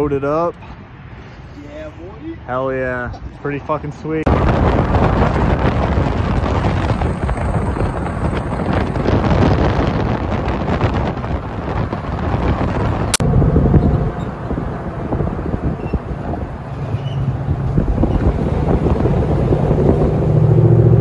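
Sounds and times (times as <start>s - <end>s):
truck road noise: 0.0s - 21.0s
wind buffeting microphone: 3.1s - 21.0s.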